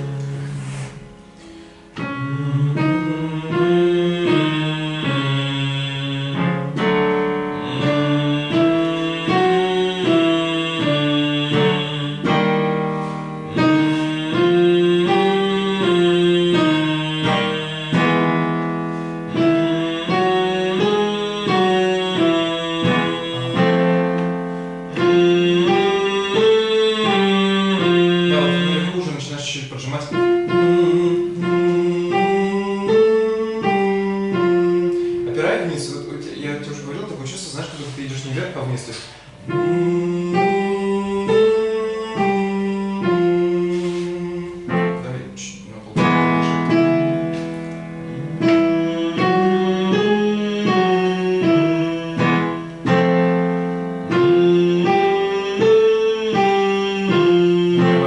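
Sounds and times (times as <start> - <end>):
notes stepping up and down: 0.0 - 58.0.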